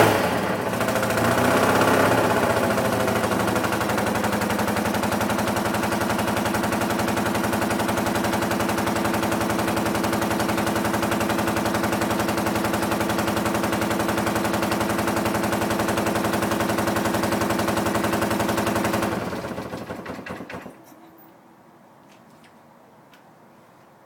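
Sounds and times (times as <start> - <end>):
motorcycle engine running: 0.0 - 20.7.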